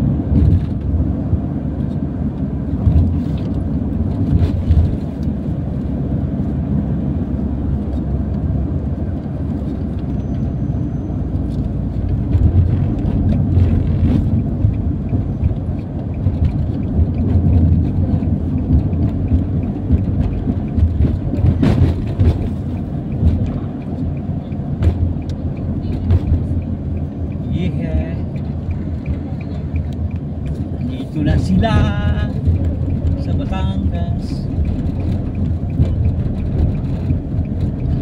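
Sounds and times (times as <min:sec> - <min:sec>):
road and engine rumble: 0:00.0 - 0:38.0.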